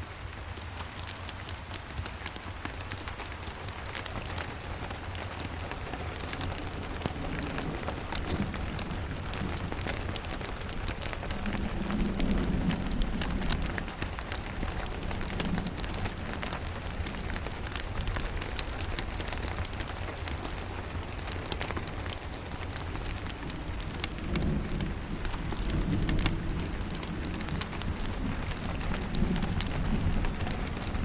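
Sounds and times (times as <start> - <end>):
steady rain ticking: 0.0 - 31.0
distant thunder rumble: 2.8 - 31.0.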